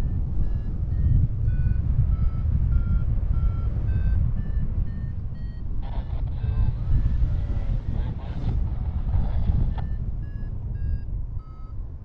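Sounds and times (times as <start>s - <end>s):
variometer beeping: 0.0s - 11.8s
wind on microphone: 0.0s - 12.0s.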